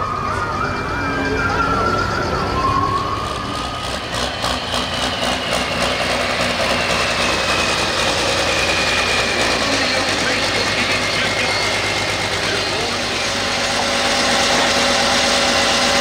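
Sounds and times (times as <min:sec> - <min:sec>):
tractor engine running at low speed: 0:00.0 - 0:16.0.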